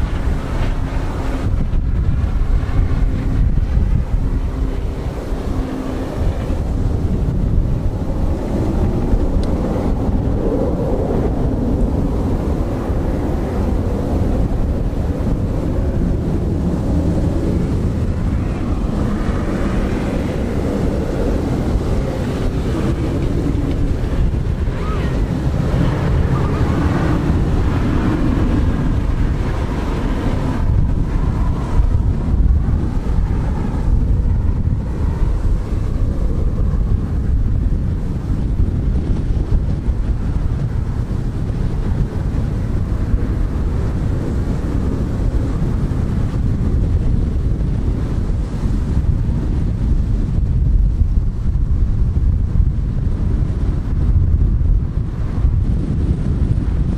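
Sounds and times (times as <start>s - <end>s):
jet engines rumbling: 0.0s - 56.9s
wind buffeting microphone: 0.0s - 56.9s.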